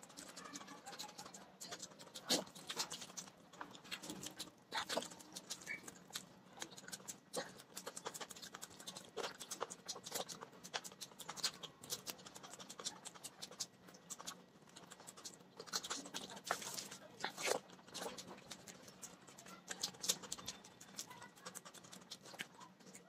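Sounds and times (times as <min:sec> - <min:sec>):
chewing and lip smacks: 0:00.0 - 0:23.0.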